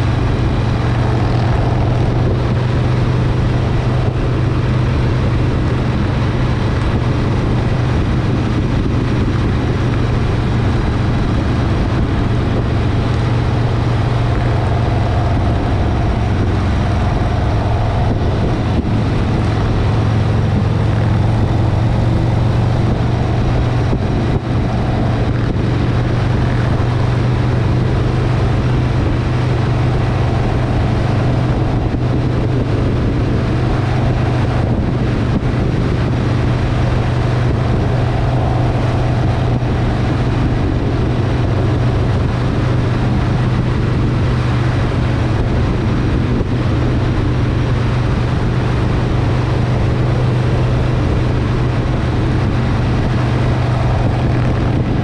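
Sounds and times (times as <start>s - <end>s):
motorcycle engine running: 0.0s - 55.0s
rushing road noise: 0.0s - 55.0s.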